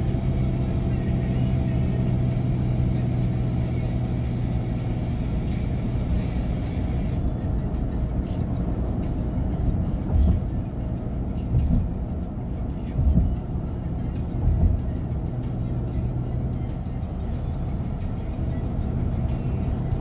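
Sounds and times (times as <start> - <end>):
car tyre and engine rumble: 0.0 - 20.0.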